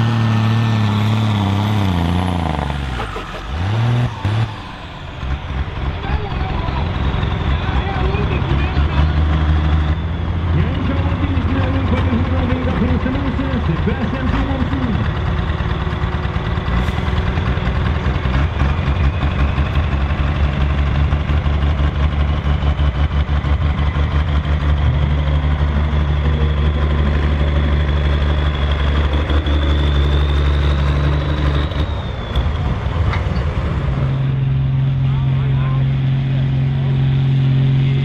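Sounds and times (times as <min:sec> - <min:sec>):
tractor engine running loudly: 0:00.0 - 0:38.0.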